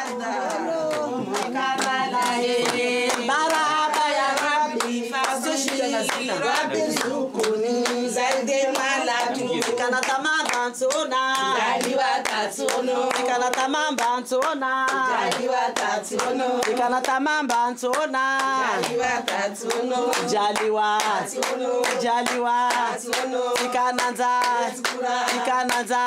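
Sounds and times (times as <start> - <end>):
handclaps: 0.0 - 26.0
women singing: 0.0 - 26.0.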